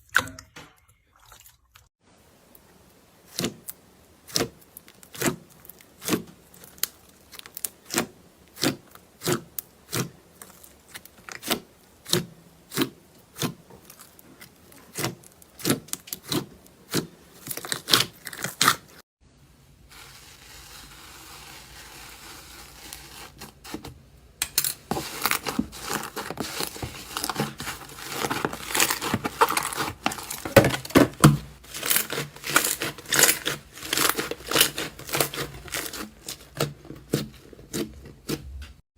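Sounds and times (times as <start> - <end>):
slime crackling and crinkling: 2.3 - 19.0, 19.8 - 23.9, 24.6 - 38.7.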